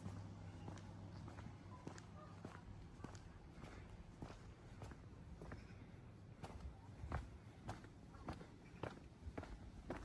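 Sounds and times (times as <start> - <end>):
footsteps on a path: 0.0 - 10.0.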